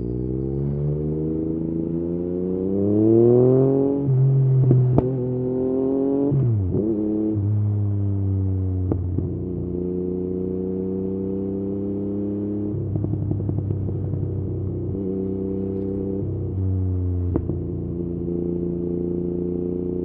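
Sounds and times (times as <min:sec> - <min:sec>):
motorcycle engine while riding: 0:00.0 - 0:20.0.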